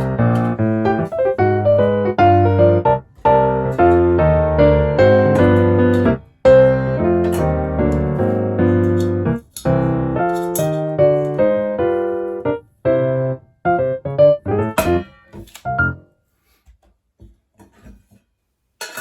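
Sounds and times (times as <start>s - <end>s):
piano melody over chords: 0.0s - 16.0s.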